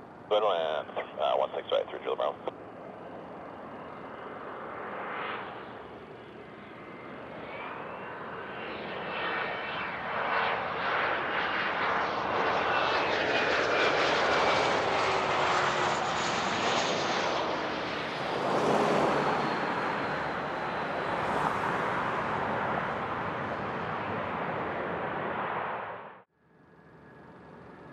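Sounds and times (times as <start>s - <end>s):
jet aircraft passing: 0.0s - 27.9s
turbine whine: 0.0s - 27.9s.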